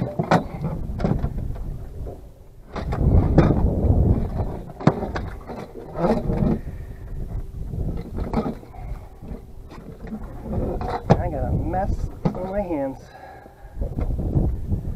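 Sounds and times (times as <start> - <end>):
knocks and thumps on boat deck: 0.0 - 14.5
wind rumbling on microphone: 0.0 - 14.9.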